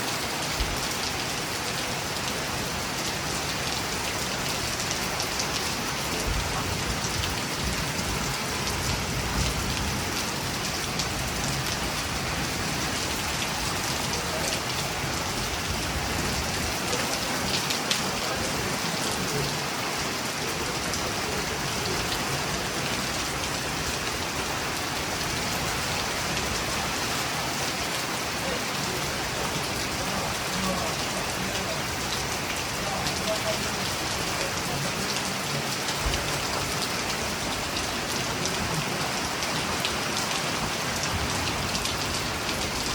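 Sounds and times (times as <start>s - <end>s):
rain pattering on surfaces: 0.0s - 42.9s.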